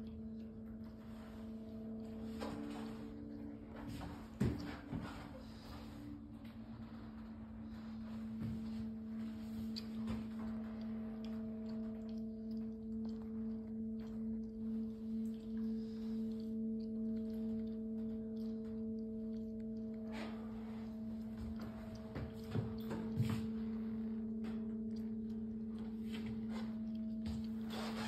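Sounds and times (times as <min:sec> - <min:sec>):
steady pitched hum: 0:00.0 - 0:28.0.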